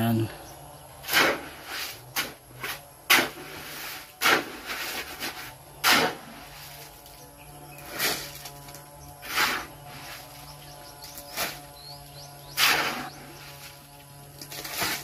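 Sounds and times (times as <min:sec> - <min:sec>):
rough masonry scrapes: 0:01.0 - 0:15.0.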